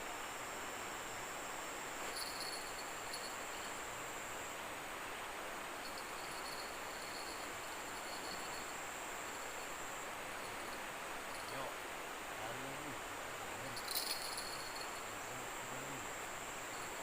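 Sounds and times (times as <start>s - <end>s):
high insect whine: 0.0s - 17.0s
insects trilling: 0.0s - 17.0s
river water flowing: 0.0s - 17.0s
soft insect chirping: 0.0s - 17.0s.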